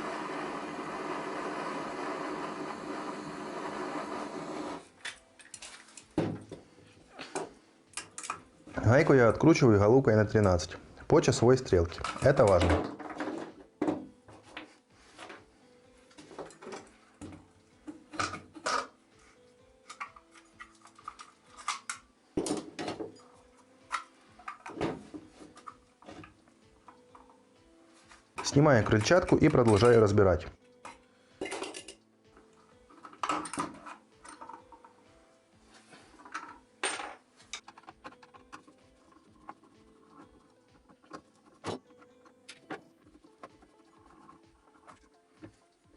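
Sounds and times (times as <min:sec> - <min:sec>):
quiet background music: 0:00.0 - 0:45.9.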